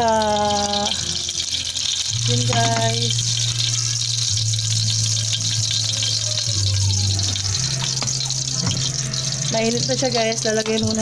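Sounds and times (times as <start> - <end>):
oil sizzling in a wok: 0.0 - 11.0.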